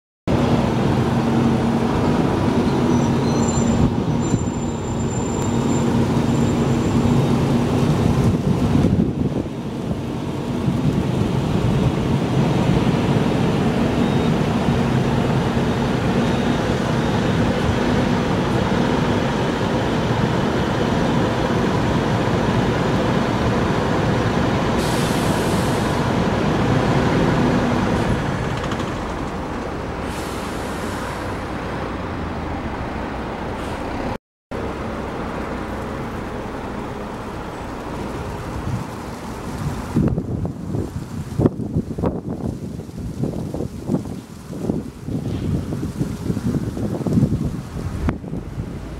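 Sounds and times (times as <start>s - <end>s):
traffic noise: 0.3s - 48.9s.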